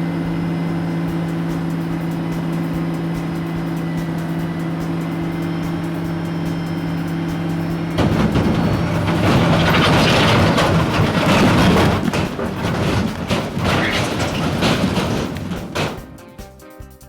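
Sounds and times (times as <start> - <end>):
vehicle engine rumbling: 0.0 - 16.4
clacks: 1.5 - 16.3.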